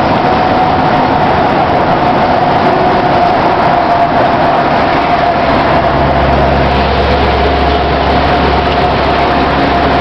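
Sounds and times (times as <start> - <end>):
constant whine: 0.0 - 10.0
deep drone: 0.0 - 10.0
road noise: 0.0 - 10.0
truck engine running: 0.0 - 10.0.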